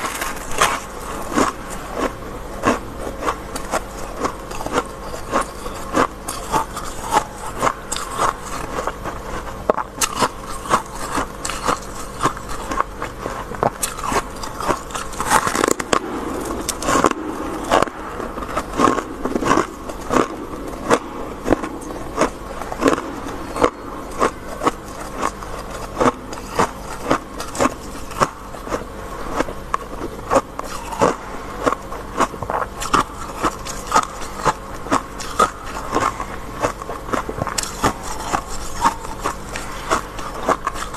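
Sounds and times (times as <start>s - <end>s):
frost being chewed crunching: 0.0s - 40.9s.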